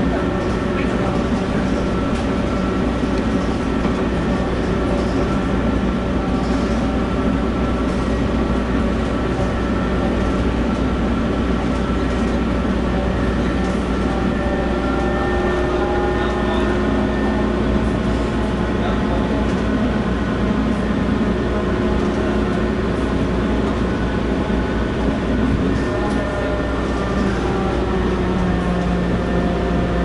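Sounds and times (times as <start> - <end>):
low train rumble: 0.0 - 30.0
metro train drive whine: 0.0 - 30.0.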